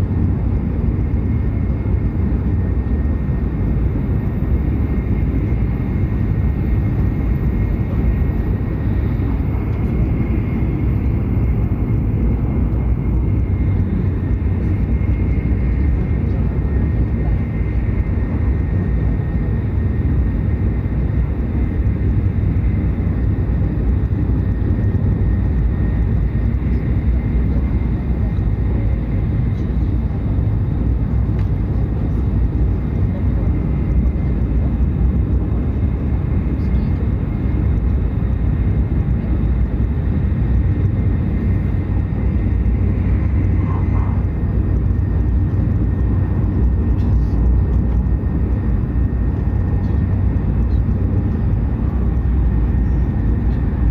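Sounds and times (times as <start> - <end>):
train rumbling at speed: 0.0 - 53.9.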